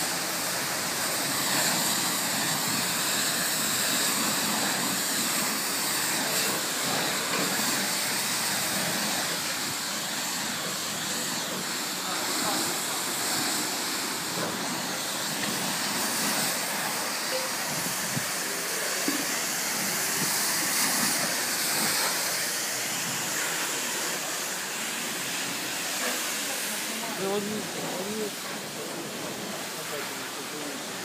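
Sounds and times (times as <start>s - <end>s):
pressure washer spraying water: 0.0s - 31.0s.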